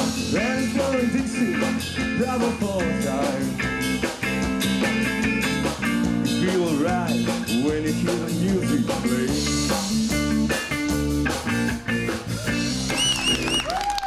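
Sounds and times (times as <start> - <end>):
blues band playing: 0.0 - 14.0.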